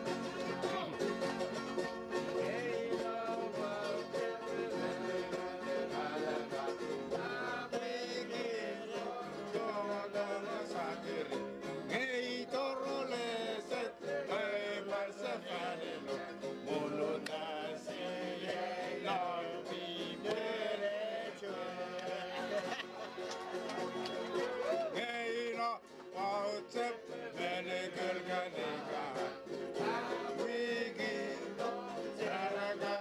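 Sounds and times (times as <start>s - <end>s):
strummed string instruments: 0.0s - 33.0s
person singing: 2.4s - 22.9s, 24.1s - 33.0s.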